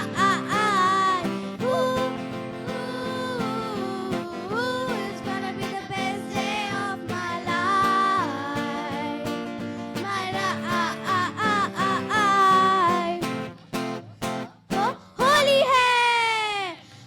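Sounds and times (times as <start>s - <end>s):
person singing: 0.0s - 13.4s, 14.7s - 15.7s.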